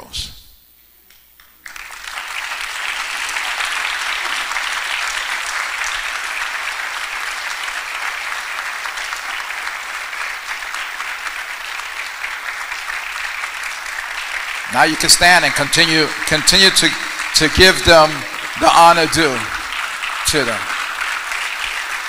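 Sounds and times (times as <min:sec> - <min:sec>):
congregation applauding: 0:01.4 - 0:22.0.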